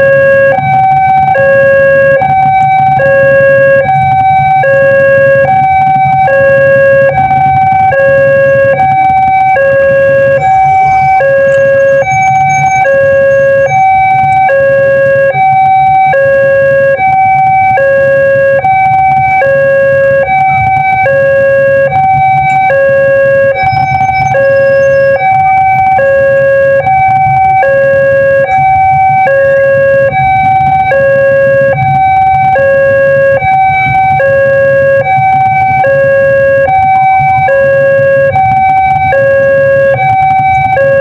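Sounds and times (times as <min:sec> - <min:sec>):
level crossing two-tone alarm: 0:00.0 - 0:41.0.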